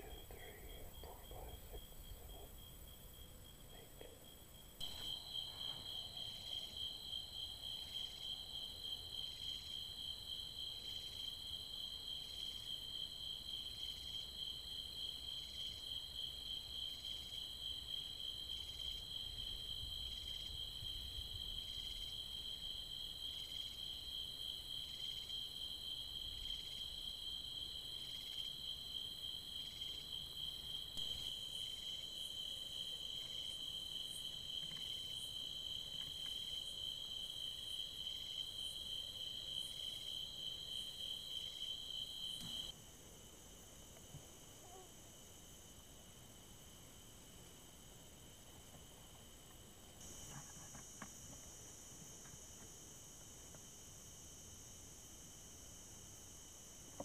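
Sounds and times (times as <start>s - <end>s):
night insects trilling: 0.0s - 57.0s.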